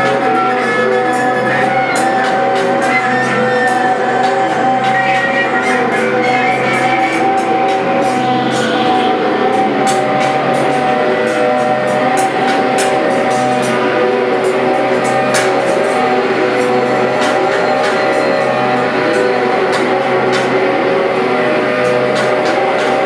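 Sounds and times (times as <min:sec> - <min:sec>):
held droning tones: 0:00.0 - 0:23.0.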